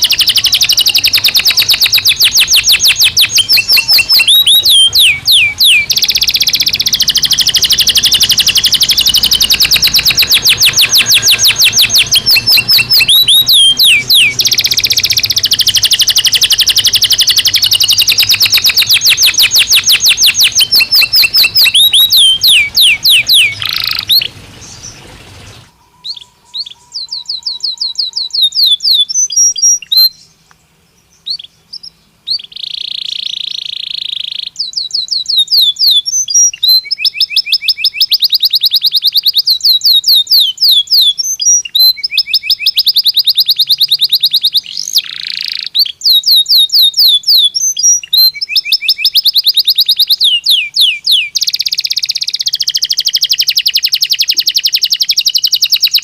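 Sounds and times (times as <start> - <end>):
canary trilling: 0.0 - 30.3, 31.3 - 56.0
harsh buzzing birdsong: 0.0 - 56.0.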